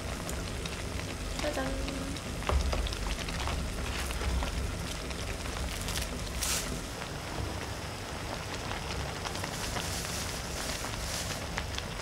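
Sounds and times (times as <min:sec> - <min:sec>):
hotpot boiling and crackling: 0:00.0 - 0:12.0.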